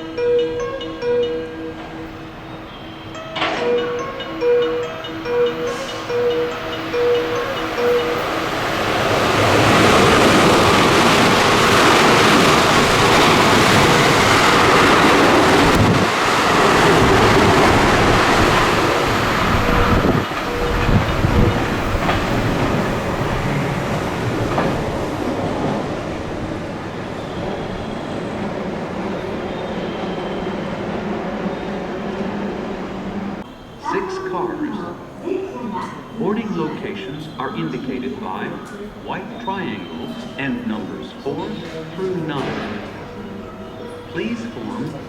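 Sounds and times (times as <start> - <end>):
train passing at speed: 0.0 - 45.0.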